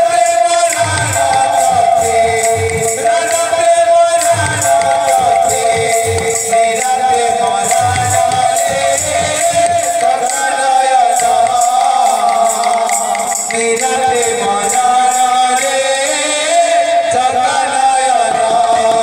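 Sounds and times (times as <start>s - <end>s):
hand cymbals struck: 0.0s - 17.4s
man singing: 0.0s - 19.0s.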